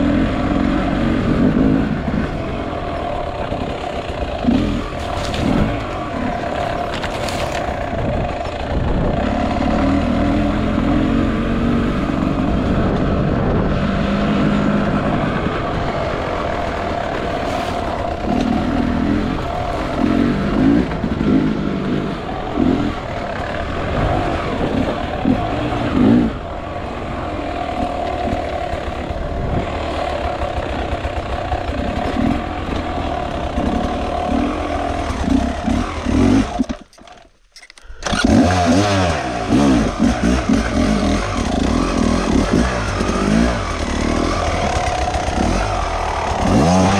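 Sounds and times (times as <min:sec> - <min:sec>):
motorcycle engine revving: 0:00.0 - 0:37.3, 0:37.9 - 0:46.9.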